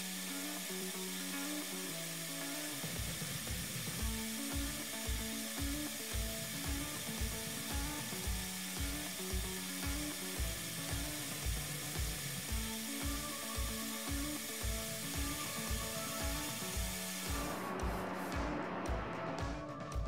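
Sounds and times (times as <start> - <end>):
spray gun hissing: 0.0 - 19.3
background music with beat: 0.0 - 20.0.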